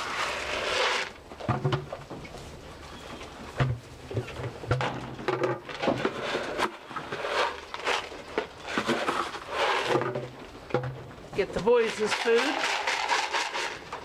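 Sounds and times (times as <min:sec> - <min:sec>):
rustling and crackling: 0:00.0 - 0:14.0.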